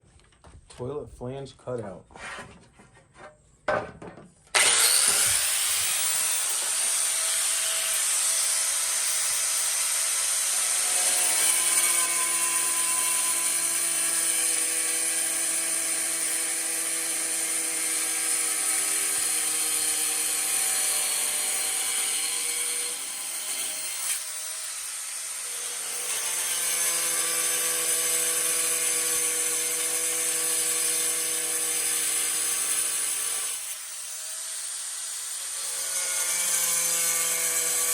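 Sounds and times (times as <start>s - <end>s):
angle grinder cutting tile: 4.5s - 37.9s.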